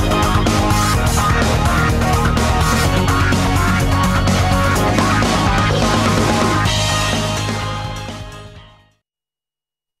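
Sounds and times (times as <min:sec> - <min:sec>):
theme music: 0:00.0 - 0:08.9.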